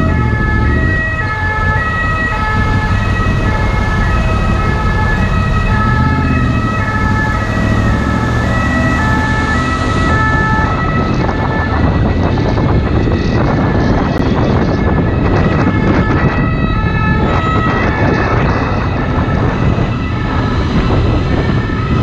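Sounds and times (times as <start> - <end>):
ambulance two-tone siren: 0.0 - 22.0
wind noise: 0.0 - 22.0.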